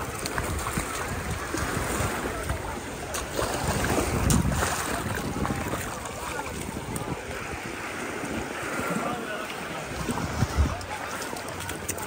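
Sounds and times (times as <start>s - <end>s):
wind buffeting microphone: 0.0s - 11.3s
waves washing on sandy shore: 0.0s - 12.0s.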